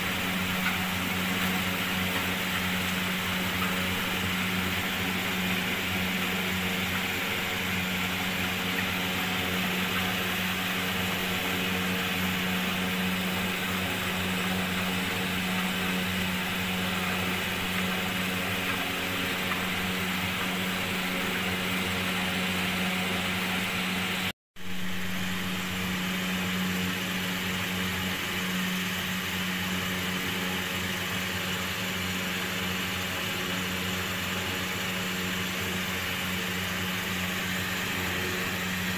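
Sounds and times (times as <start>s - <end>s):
machine hum with low drone: 0.0s - 38.9s.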